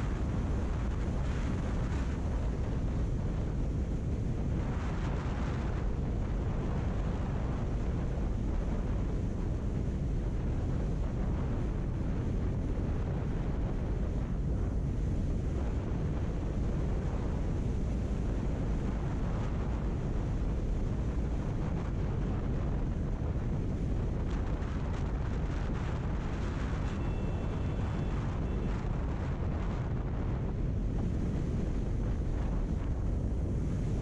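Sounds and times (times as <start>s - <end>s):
road noise: 0.0s - 34.0s
wind buffeting microphone: 0.0s - 34.0s.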